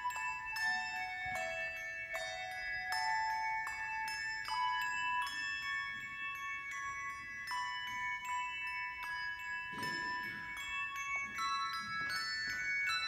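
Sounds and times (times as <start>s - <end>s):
handbells playing slow melody: 0.0s - 13.0s.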